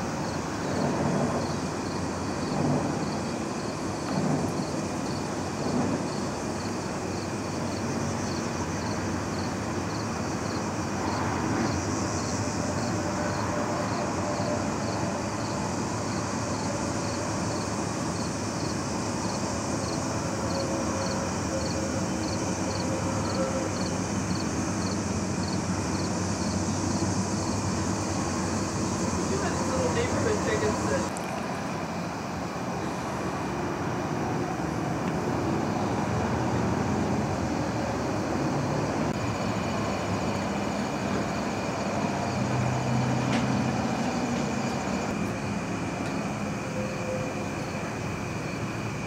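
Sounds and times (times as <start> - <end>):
distant town traffic hum: 0.0 - 49.0.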